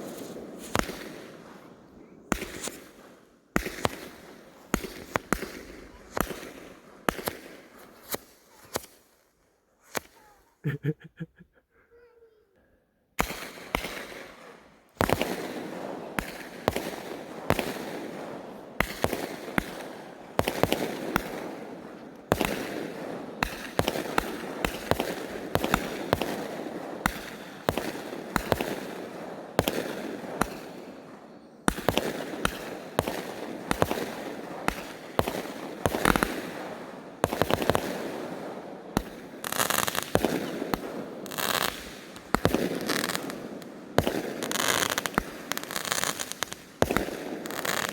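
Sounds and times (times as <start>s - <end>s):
fireworks bangs: 0.0s - 9.0s, 13.2s - 47.9s.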